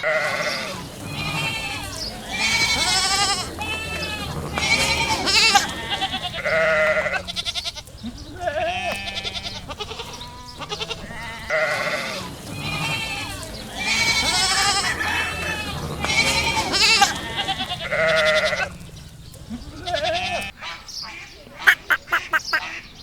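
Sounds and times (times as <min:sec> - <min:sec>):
goats bleating: 0:00.0 - 0:20.6, 0:21.6 - 0:22.6.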